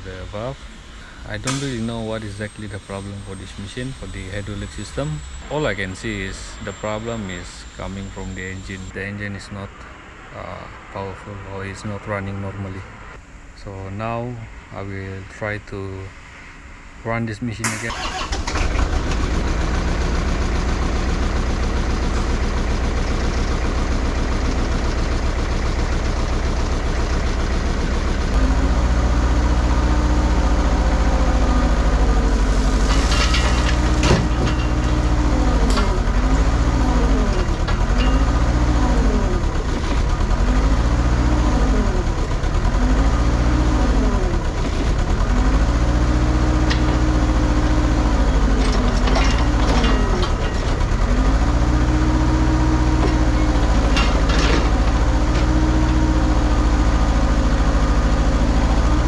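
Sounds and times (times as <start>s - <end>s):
excavator diesel engine bogging: 0.0s - 9.6s, 17.6s - 59.0s.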